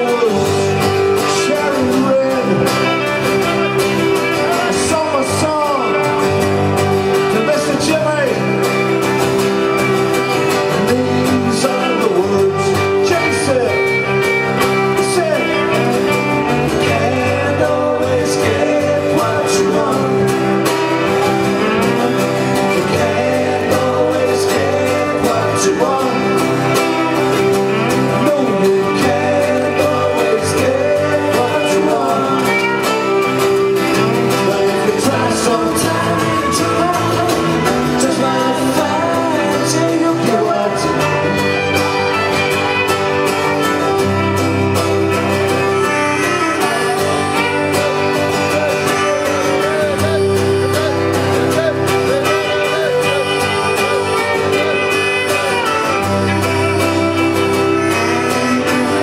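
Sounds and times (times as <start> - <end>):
electric bass guitar: 0.0 - 59.0
strummed acoustic guitar: 0.0 - 59.0
bowed fiddle melody: 2.1 - 59.0.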